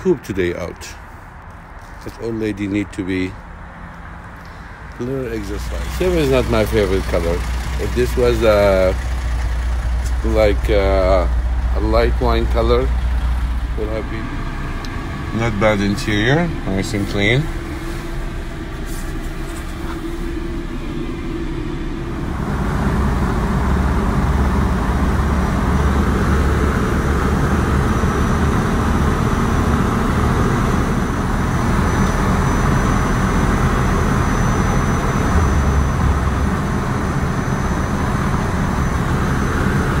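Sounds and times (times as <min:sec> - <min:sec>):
car cabin road noise: 0:00.0 - 0:40.0.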